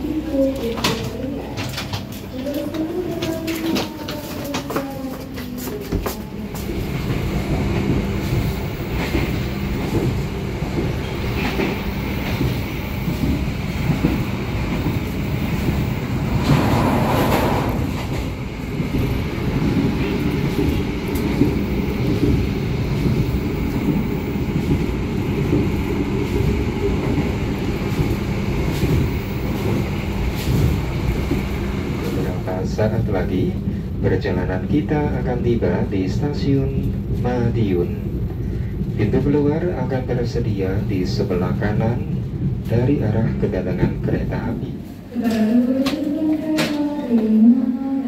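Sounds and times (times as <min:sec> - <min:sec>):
train wheels rumbling and rattling: 0:00.0 - 0:47.4.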